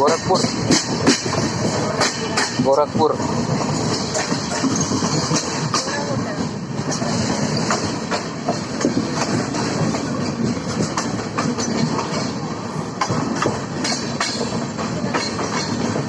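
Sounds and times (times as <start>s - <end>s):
train rumble: 0.0s - 16.0s
train wheels clacking over rail joints: 0.0s - 16.0s.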